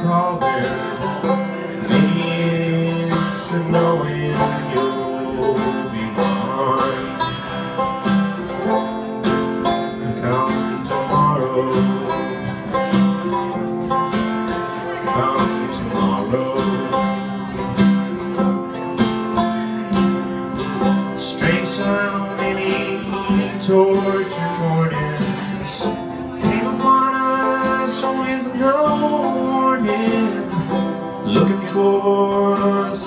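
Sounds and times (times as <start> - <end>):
acoustic guitar chords: 0.0 - 33.0
banjo picking: 0.0 - 33.0.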